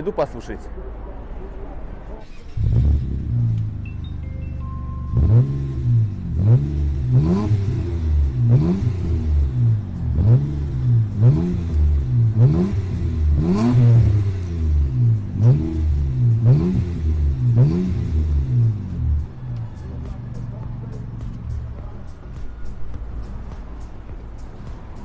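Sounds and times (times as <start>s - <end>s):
car engine revving: 2.2s - 4.2s, 4.9s - 25.0s.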